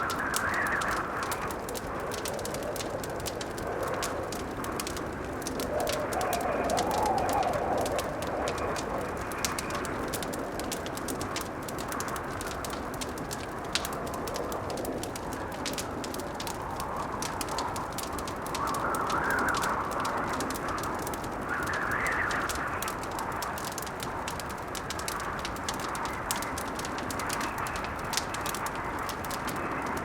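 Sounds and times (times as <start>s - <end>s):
gusting blizzard wind: 0.0s - 30.0s
wood fire crackling: 0.0s - 30.0s.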